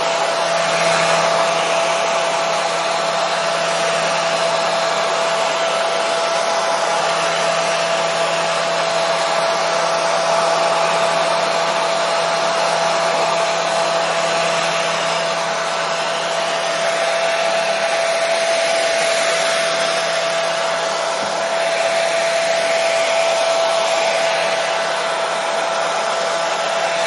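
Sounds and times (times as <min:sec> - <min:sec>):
hair dryer running: 0:00.0 - 0:27.0.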